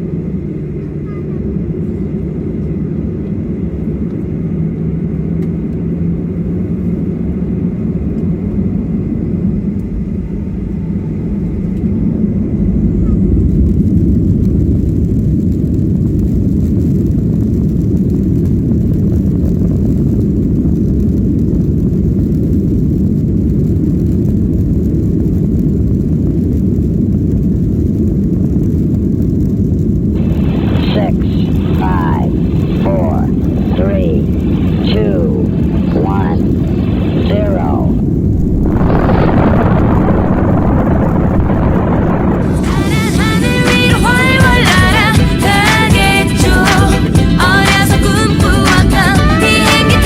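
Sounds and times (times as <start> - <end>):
jet engine rumble in cabin: 0.0 - 50.0.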